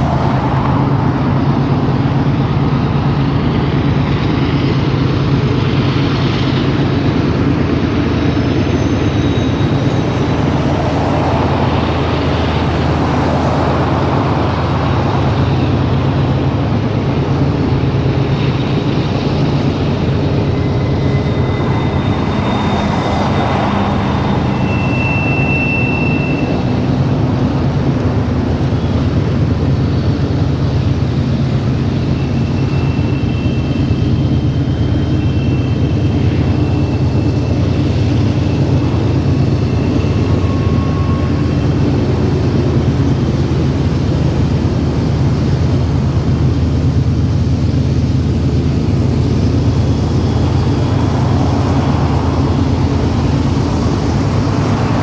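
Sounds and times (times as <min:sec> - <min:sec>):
rail machinery low drone: 0:00.0 - 0:55.0.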